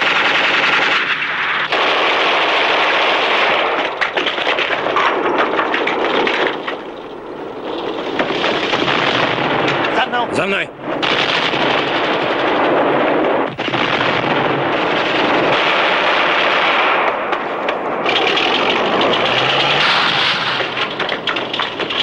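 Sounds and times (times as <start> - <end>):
sharp separate gunshots: 0.0 - 6.8, 7.5 - 22.0
small-arms and machine-gun fire: 0.0 - 22.0.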